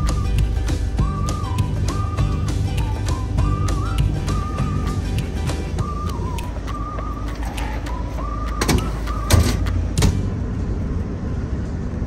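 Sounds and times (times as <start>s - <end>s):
moving bus rumble: 0.0s - 12.0s.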